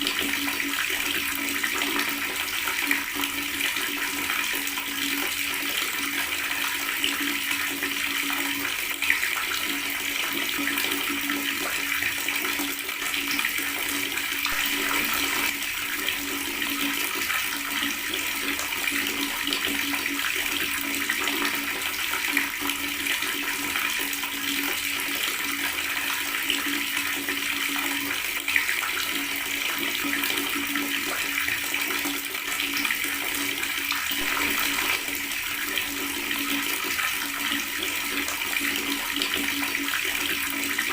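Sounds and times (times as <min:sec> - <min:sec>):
water tap running and gurgling: 0:00.0 - 0:40.9.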